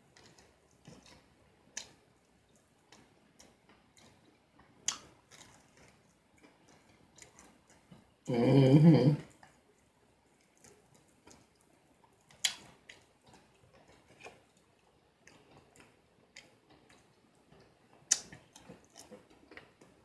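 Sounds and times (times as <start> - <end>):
fried chicken being chewed: 0.1 - 8.3, 9.2 - 20.0.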